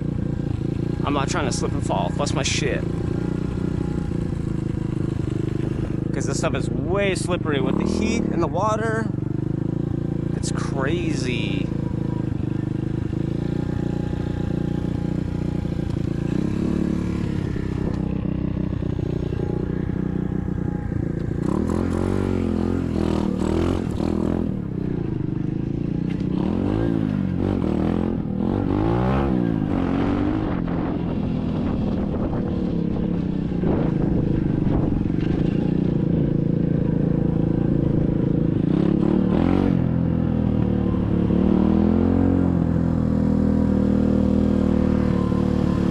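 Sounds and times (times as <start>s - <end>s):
dirt bike engine revving: 0.0s - 33.0s, 33.6s - 45.9s.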